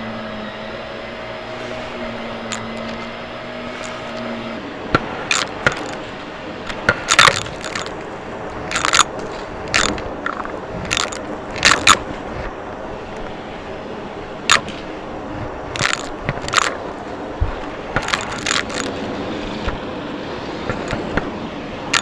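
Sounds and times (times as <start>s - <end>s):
vacuum cleaner humming: 0.0s - 22.0s
sharp crackles and crunches: 1.6s - 13.4s, 14.4s - 21.3s.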